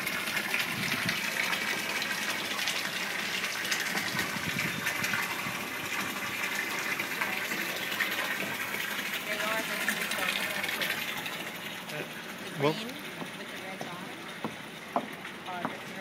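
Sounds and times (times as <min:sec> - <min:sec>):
water gushing into tank: 0:00.0 - 0:16.0.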